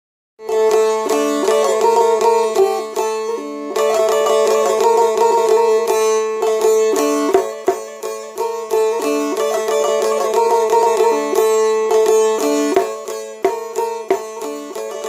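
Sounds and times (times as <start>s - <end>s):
plucked string melody: 0.4s - 15.0s.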